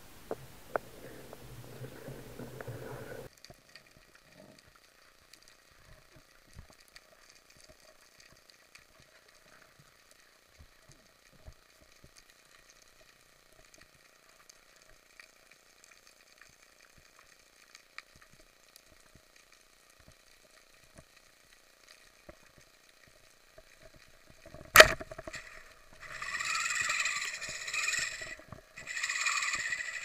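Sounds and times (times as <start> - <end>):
underwater crackling: 0.3 - 30.0.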